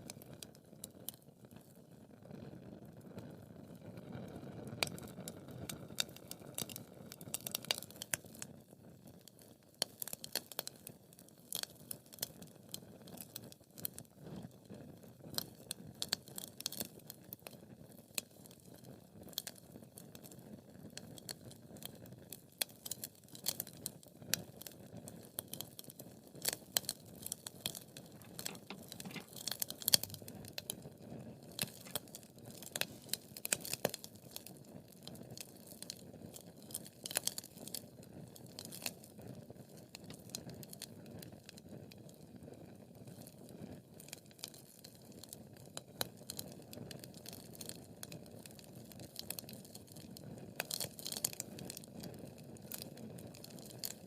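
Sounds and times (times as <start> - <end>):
wood fire crackling and popping: 3.2 - 54.0.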